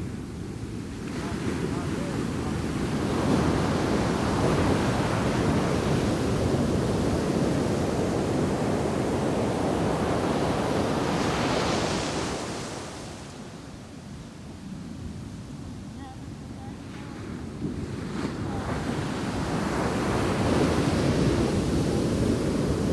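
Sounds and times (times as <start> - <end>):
breaking waves rumbling: 0.0 - 14.0, 15.6 - 22.9.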